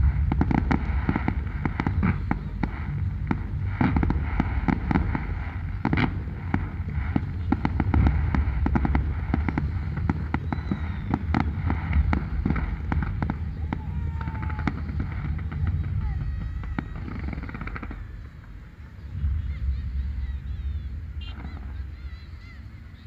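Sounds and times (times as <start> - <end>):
fireworks bangs and crackles: 0.0 - 23.0
low rumble: 0.0 - 23.0.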